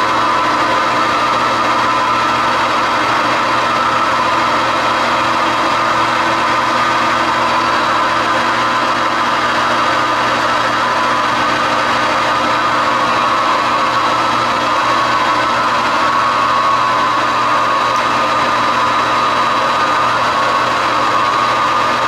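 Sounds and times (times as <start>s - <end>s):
metal lathe humming and whining: 0.0s - 22.0s.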